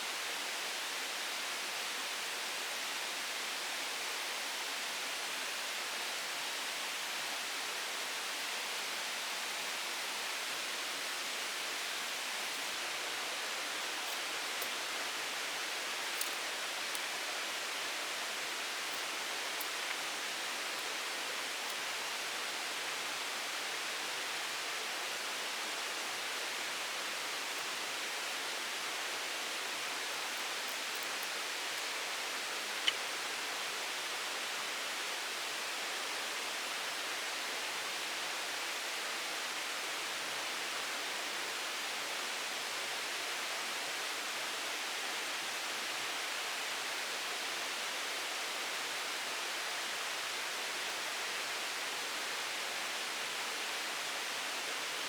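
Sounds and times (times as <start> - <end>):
steady hiss of water: 0.0 - 55.0.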